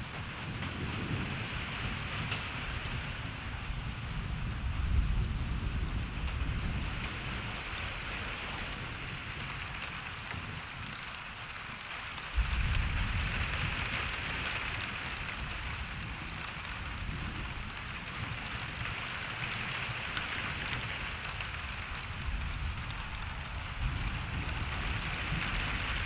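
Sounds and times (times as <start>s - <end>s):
thunder rumbling: 0.0s - 10.7s, 12.2s - 26.0s
rain falling: 0.0s - 26.0s.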